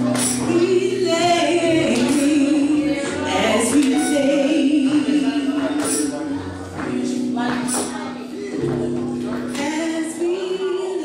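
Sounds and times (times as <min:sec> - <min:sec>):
keyboard accompaniment: 0:00.0 - 0:11.0
woman singing r and b: 0:00.0 - 0:11.0.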